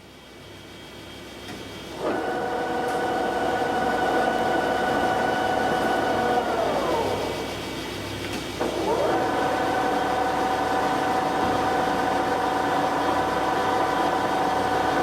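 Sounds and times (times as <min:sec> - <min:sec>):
lathe motor whine: 0:01.9 - 0:15.0.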